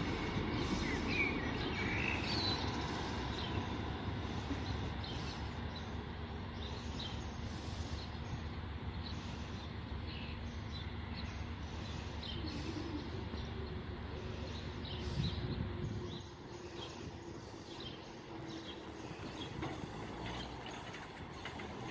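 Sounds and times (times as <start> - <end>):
low outdoor rumble: 0.0 - 21.9
small birds chirping: 0.4 - 21.9.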